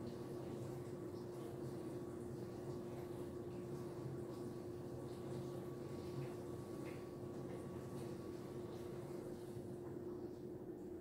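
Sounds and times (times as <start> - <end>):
low room tone hum: 0.0 - 11.0.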